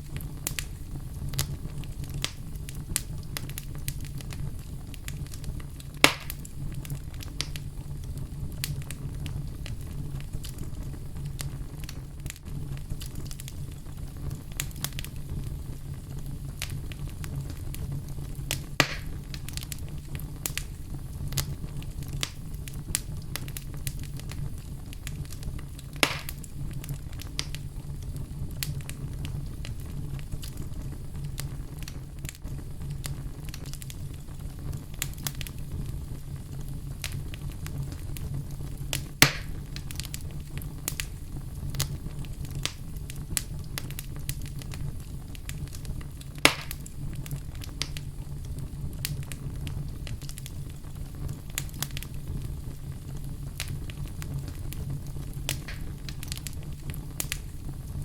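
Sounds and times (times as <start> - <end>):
loud sharp fire pops: 0.0 - 36.0, 36.6 - 58.0
fire crackling: 0.0 - 58.0
fire flames rumbling: 0.0 - 58.0.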